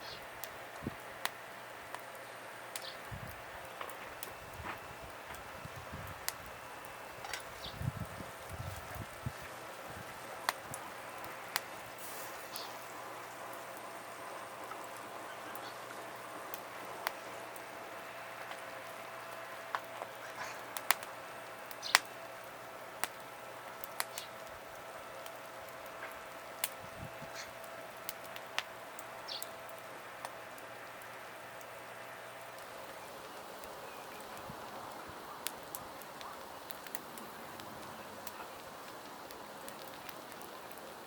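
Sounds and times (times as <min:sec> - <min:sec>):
campfire crackling and popping: 0:00.0 - 0:41.0
low fire hiss: 0:00.0 - 0:41.0.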